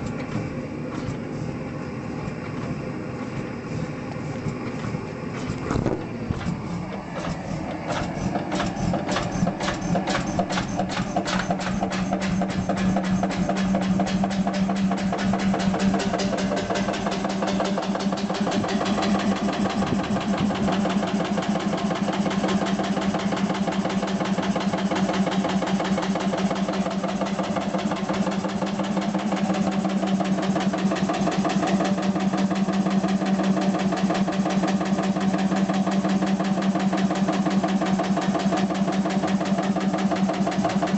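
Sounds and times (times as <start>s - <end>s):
hot bulb engine running: 0.0s - 40.9s.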